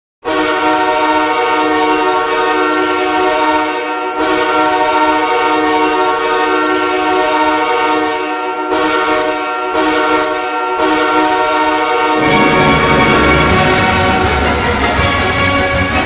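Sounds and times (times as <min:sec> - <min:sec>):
hockey goal horn blasts: 0:00.2 - 0:15.9.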